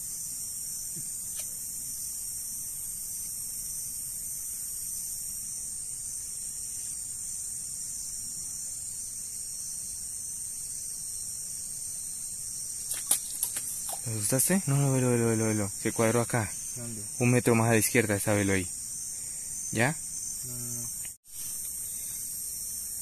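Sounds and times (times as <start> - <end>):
night insects chorus: 0.0 - 23.0.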